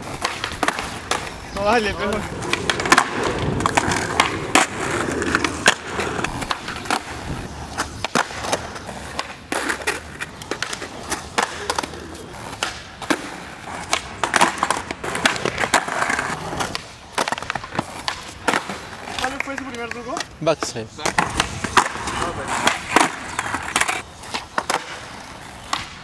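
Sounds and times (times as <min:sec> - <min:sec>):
skateboard clacks: 0:00.0 - 0:26.0
skateboards rolling on concrete: 0:00.0 - 0:26.0.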